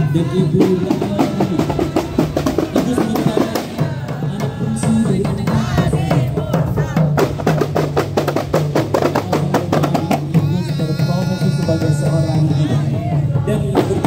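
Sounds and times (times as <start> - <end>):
frame drums beaten fast: 0.0 - 14.0.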